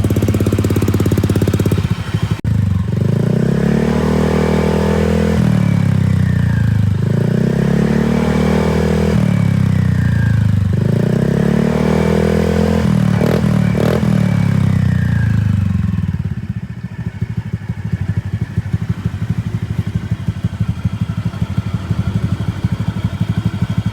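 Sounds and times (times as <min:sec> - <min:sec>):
scooter engine revving and idling: 0:00.0 - 0:23.9.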